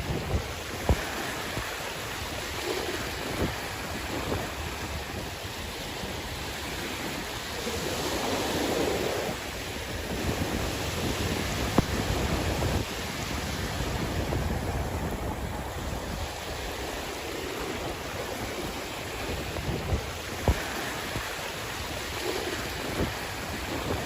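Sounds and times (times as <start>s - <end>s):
sea waves washing onto shore: 0.0s - 24.0s
wind buffeting microphone: 0.0s - 24.0s.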